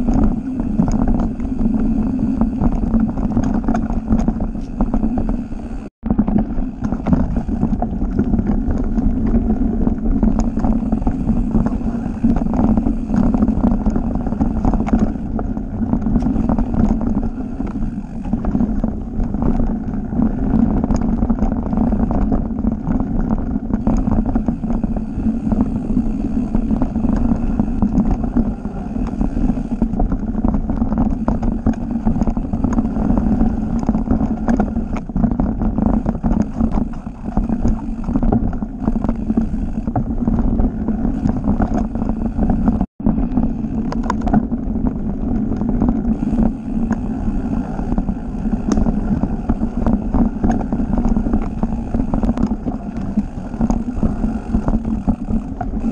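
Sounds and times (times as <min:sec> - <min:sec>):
bike rattling over roots: 0:00.0 - 0:55.9
tyres running over dirt: 0:00.0 - 0:55.9
wind buffeting microphone: 0:00.0 - 0:55.9.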